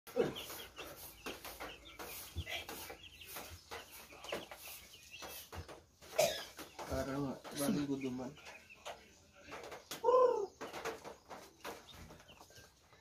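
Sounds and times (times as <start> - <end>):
chicks peeping: 0.1 - 13.0
soft knocks and rustles: 0.2 - 13.0.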